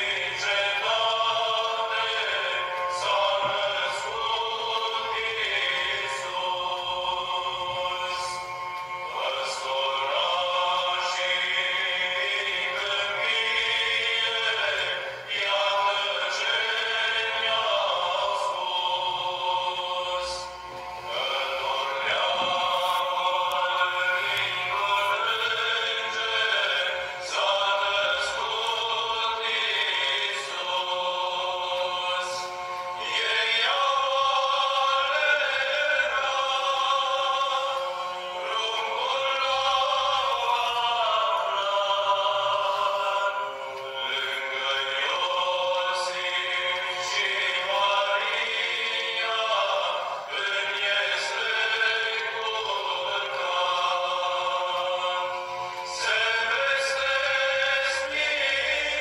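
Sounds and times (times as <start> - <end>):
choir singing sustained chords: 0.0 - 59.0.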